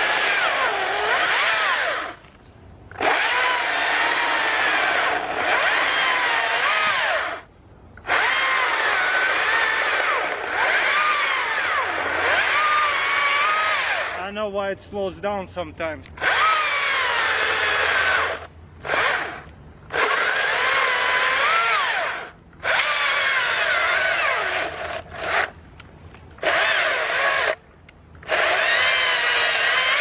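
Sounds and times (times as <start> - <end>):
electric chainsaw cutting log: 0.0 - 2.3, 2.9 - 14.3, 16.1 - 25.6, 26.4 - 27.6, 28.2 - 30.0.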